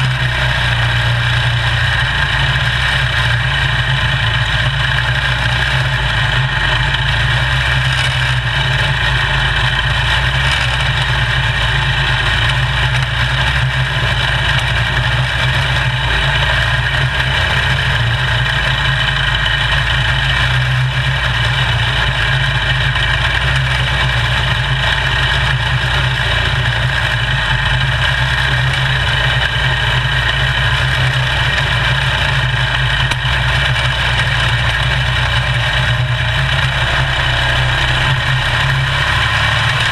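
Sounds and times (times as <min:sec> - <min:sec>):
small race car engine running: 0:00.0 - 0:39.9.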